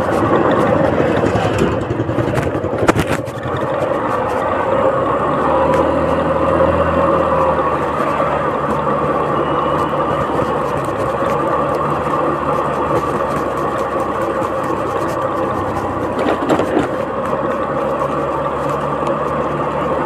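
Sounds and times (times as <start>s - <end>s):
motorcycle engine running: 0.0s - 20.0s
road noise: 0.0s - 20.0s
wind on microphone: 0.0s - 20.0s.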